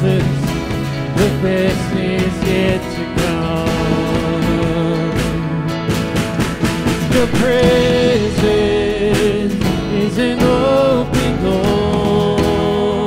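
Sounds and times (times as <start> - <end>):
person singing: 0.0 - 5.8, 7.0 - 13.0
drum hits: 0.0 - 12.7
worship band playing live: 0.0 - 13.0.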